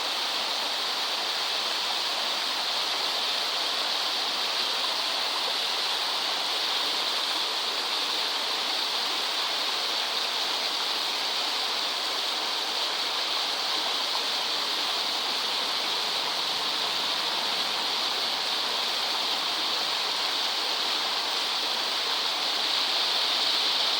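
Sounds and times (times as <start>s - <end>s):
waterfall pouring and splashing: 0.0s - 23.9s.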